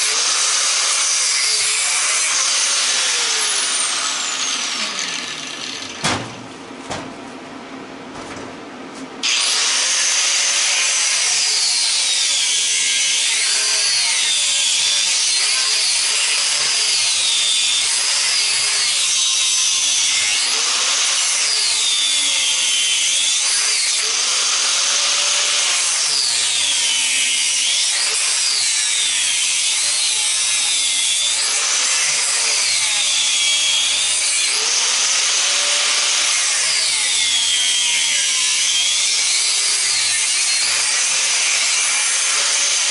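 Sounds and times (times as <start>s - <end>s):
angle grinder cutting metal: 0.0s - 6.4s, 9.2s - 42.9s.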